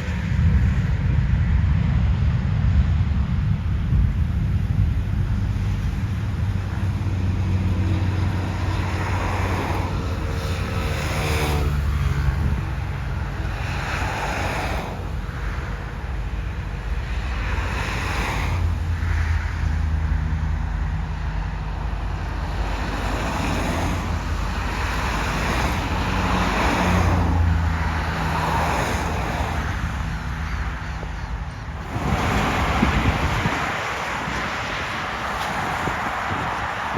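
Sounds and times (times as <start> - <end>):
steady low rumble: 0.0 - 35.5
road traffic passing: 0.0 - 36.9
wind on microphone: 0.0 - 36.9.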